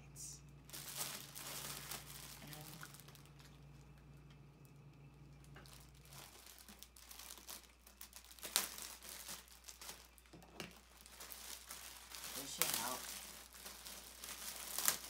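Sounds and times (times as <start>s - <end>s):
plastic wrapping crinkling: 0.5s - 15.0s
plastic tearing: 0.7s - 3.6s, 5.4s - 15.0s.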